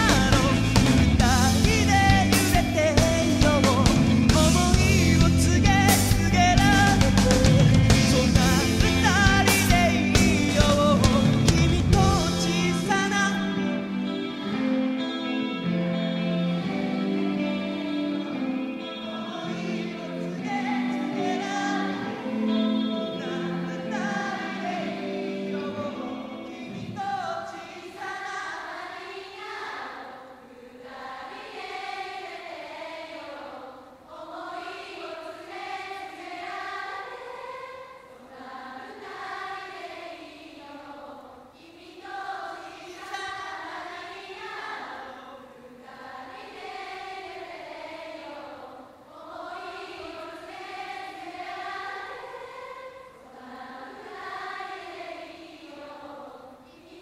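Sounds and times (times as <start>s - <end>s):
crowd singing in unison: 0.0s - 14.6s, 16.5s - 57.0s.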